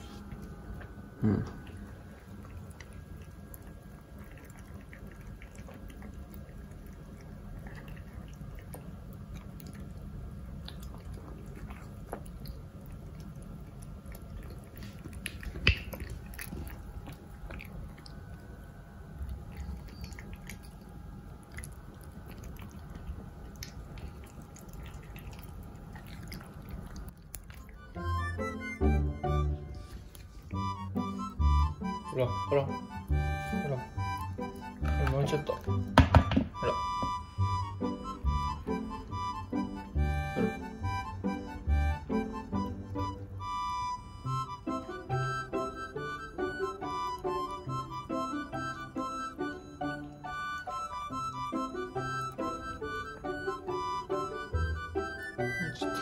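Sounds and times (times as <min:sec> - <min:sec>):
puppy chewing kibble: 0:00.0 - 0:56.0.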